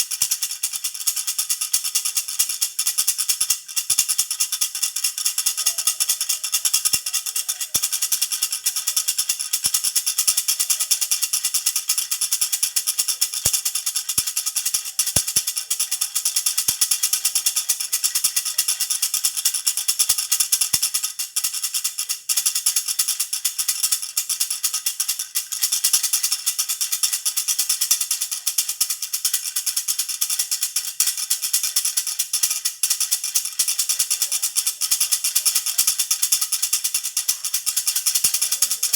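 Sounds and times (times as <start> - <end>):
baby rattle jingling: 0.0 - 38.9.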